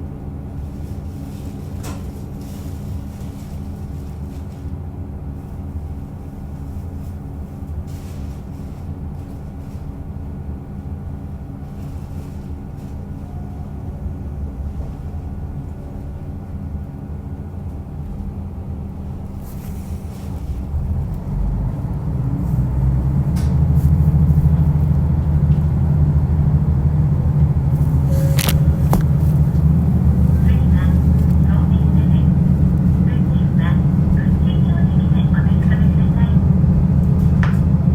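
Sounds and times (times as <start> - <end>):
diesel railcar engine hum: 0.0 - 37.9
rail noise: 0.0 - 37.9.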